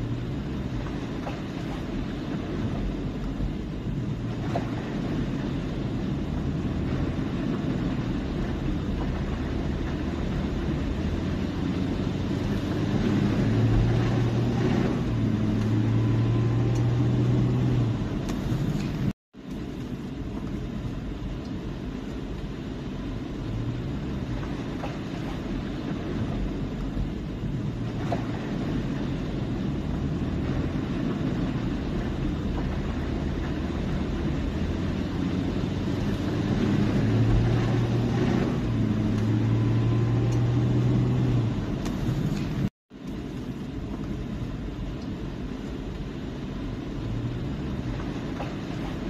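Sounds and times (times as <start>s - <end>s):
car engine hum: 0.0s - 49.0s
tyres washing through water: 0.0s - 49.0s.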